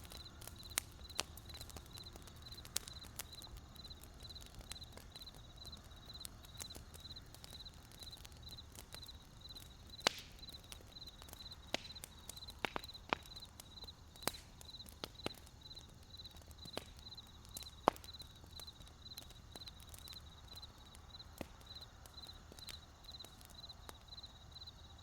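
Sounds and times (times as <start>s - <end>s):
campfire crackling: 0.0s - 25.0s
crickets chirping: 0.0s - 25.0s.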